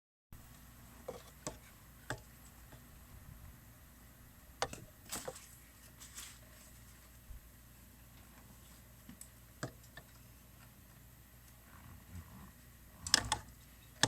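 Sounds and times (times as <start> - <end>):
low steady hum: 0.4 - 14.0.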